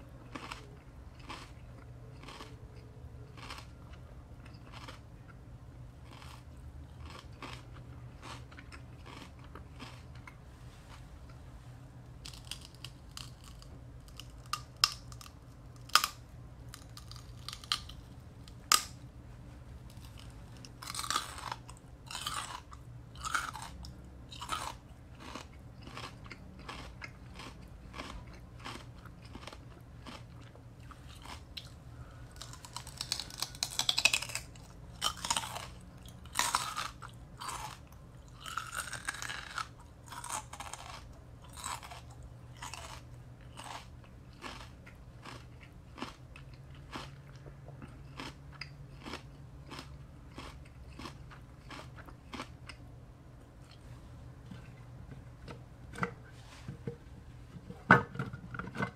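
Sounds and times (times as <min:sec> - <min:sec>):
chewing celery: 0:00.0 - 0:11.5, 0:12.1 - 0:57.8.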